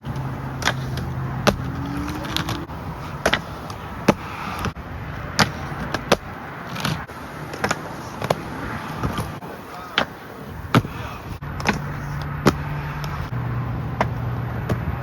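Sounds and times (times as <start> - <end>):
skateboard wheels rolling: 0.0 - 15.0
skateboard clacks: 0.1 - 13.2, 14.0 - 15.0.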